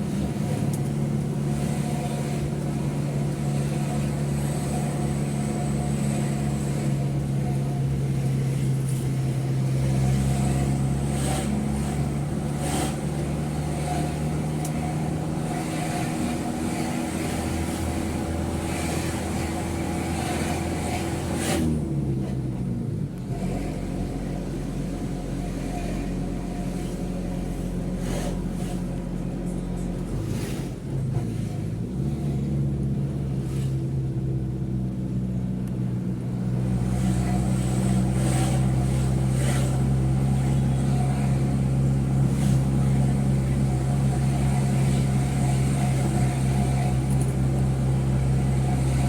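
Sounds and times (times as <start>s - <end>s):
truck diesel engine running: 0.0s - 23.0s, 23.8s - 49.0s.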